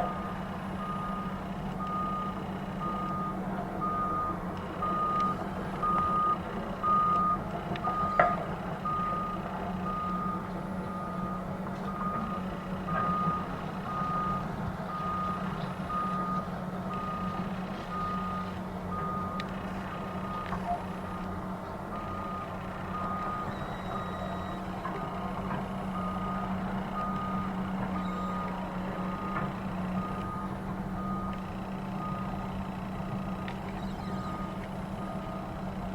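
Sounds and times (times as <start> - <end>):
reverse alarm beeping: 0.0 - 8.2, 8.8 - 19.4, 21.9 - 25.3, 25.9 - 29.4, 30.0 - 31.4, 33.8 - 35.5.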